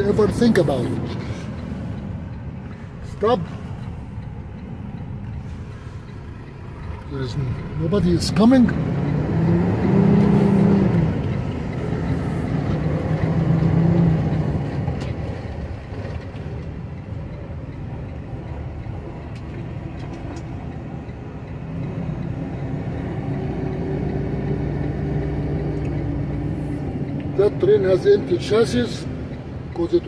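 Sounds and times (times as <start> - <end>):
truck diesel engine: 0.0 - 30.0.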